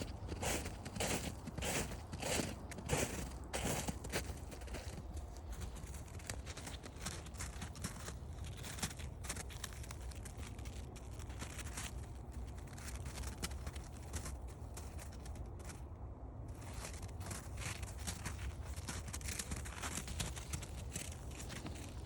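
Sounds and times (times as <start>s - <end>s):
footsteps crunching on trail: 0.0s - 15.8s, 16.5s - 22.0s.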